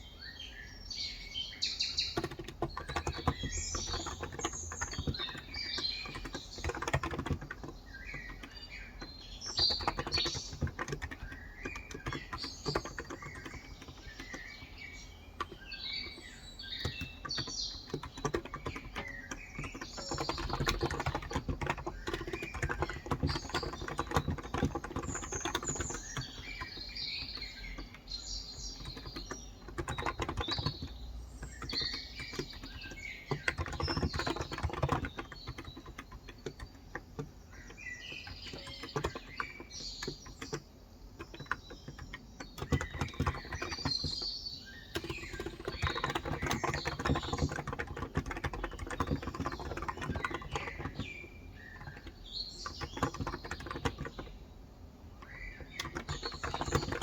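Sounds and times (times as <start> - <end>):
small birds chirping: 0.0 - 57.0
keyboard typing: 1.4 - 57.0.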